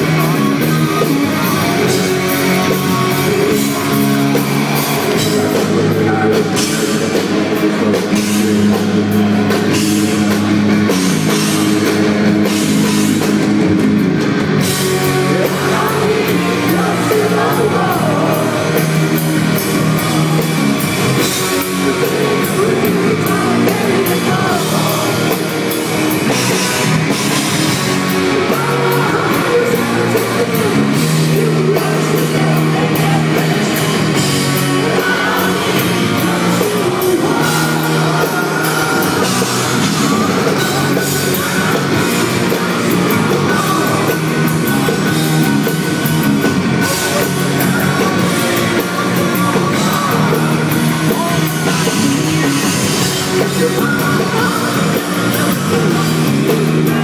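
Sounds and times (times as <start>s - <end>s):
man singing lead vocals: 0.0s - 13.5s, 14.6s - 57.0s
bass guitar: 0.0s - 57.0s
distorted electric guitars: 0.0s - 57.0s
drum kit: 0.0s - 57.0s.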